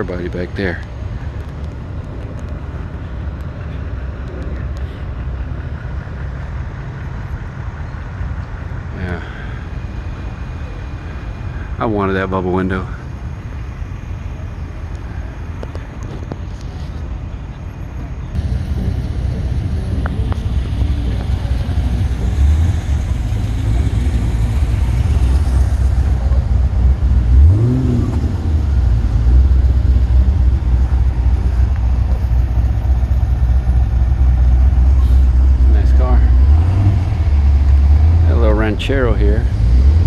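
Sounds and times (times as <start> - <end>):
vehicle engine running and revving: 0.0 - 12.7, 13.6 - 40.0.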